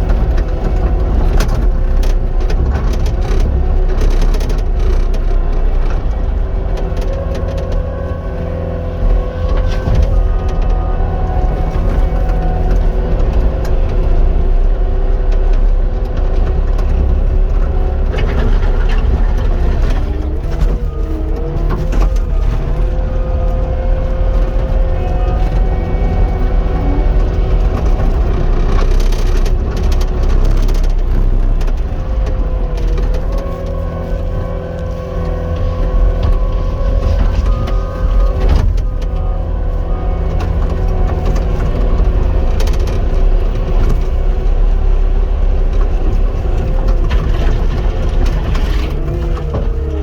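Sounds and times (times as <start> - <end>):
skid steer engine and hydraulics: 0.0 - 50.0.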